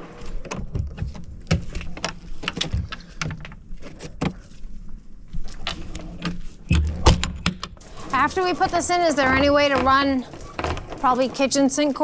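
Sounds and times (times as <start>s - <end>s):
clicks and knocks of plumbing gear: 0.1s - 4.7s, 5.3s - 12.0s.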